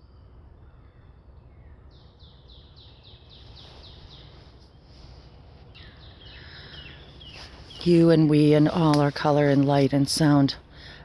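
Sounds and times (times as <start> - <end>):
low outdoor rumble: 0.0 - 11.0
songbird singing: 0.0 - 11.0.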